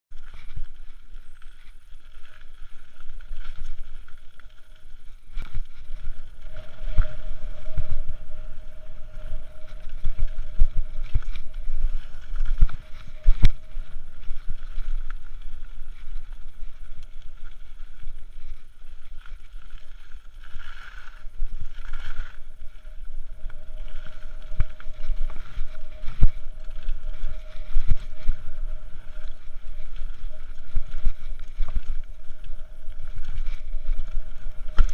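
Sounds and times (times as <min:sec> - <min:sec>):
steady whirring tone: 0:00.1 - 0:34.9
wind buffeting microphone: 0:04.8 - 0:34.9.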